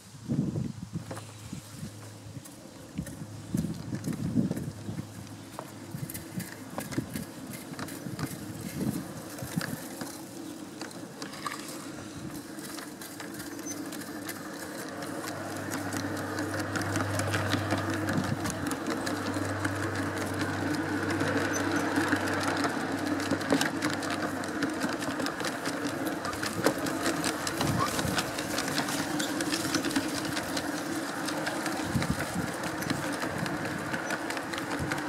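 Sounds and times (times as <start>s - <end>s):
wheels clicking over rails: 1.0s - 35.0s
model locomotive motor whir: 2.9s - 35.0s.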